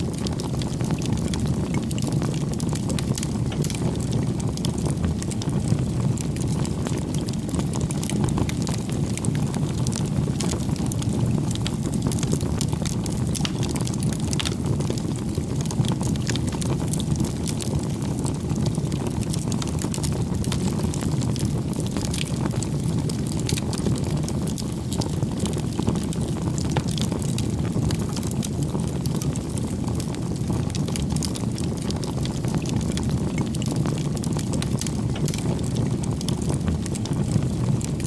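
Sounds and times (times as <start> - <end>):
fire crackling and popping: 0.0 - 38.0
wood fire rumbling: 0.0 - 38.0.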